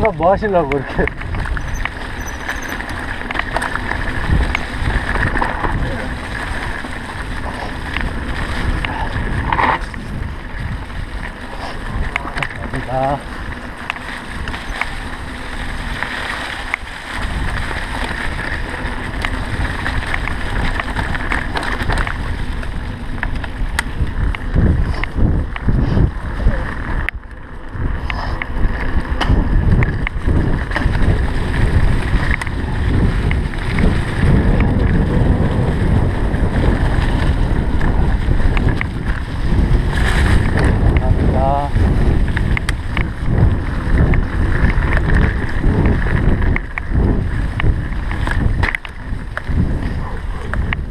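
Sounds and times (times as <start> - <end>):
bike rattling over bumps: 0.0 - 50.9
tyres rumbling on dirt trail: 0.0 - 50.9
wind buffeting microphone: 0.0 - 50.9.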